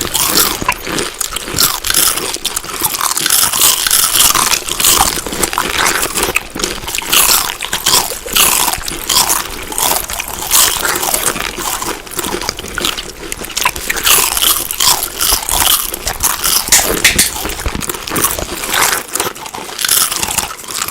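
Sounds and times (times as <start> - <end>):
chewing crunchy food: 0.0 - 20.9.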